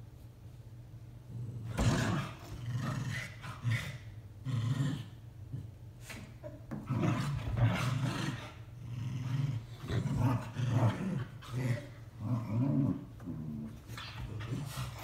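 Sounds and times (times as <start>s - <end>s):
dogs play-growling: 1.2s - 15.0s.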